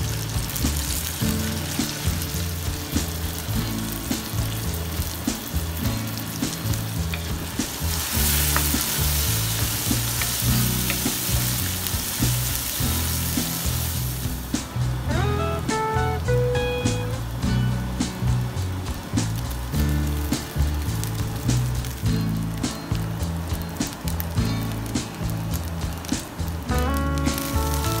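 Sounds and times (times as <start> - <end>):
peas sizzling in hot oil: 0.0 - 28.0
soft background music: 0.0 - 28.0.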